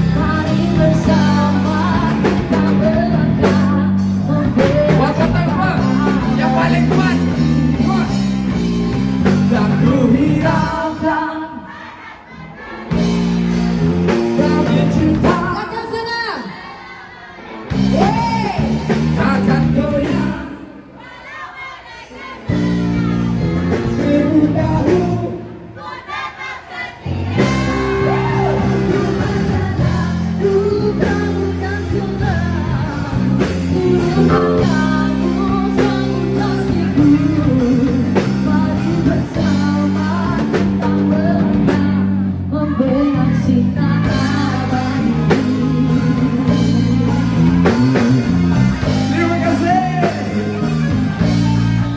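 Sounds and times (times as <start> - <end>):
person singing into microphone: 0.0 - 8.2, 9.3 - 13.1, 14.3 - 16.7, 17.8 - 26.0, 27.4 - 48.1
live rock band playing: 0.0 - 11.4, 12.6 - 20.9, 22.1 - 25.7, 27.0 - 51.9.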